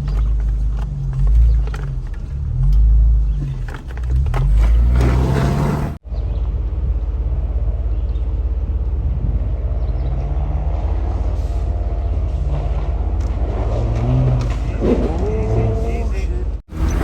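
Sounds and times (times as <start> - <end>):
engine working under load: 0.0 - 17.0.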